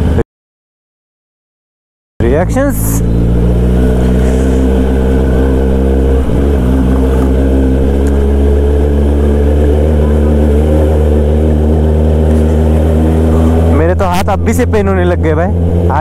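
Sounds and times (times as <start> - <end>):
motorcycle engine revving: 2.2 - 16.0.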